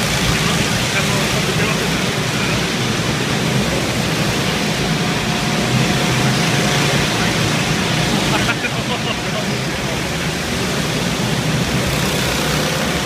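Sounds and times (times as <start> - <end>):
go-karts din: 0.0 - 13.0
thin engine whine: 0.0 - 13.0.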